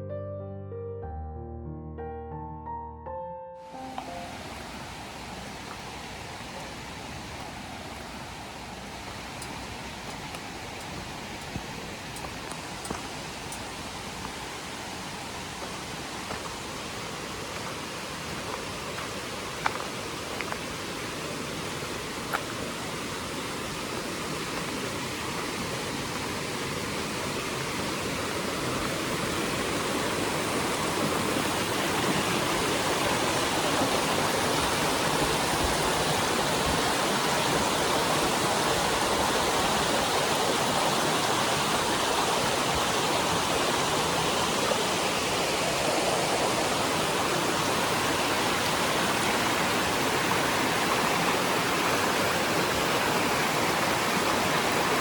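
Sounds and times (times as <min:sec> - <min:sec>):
rushing water of mountain stream: 0:03.6 - 0:55.0.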